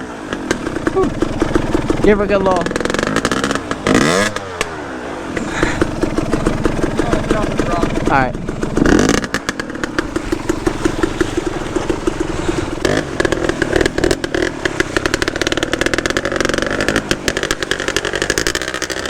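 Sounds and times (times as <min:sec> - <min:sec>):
dirt bike engine: 0:00.0 - 0:19.0.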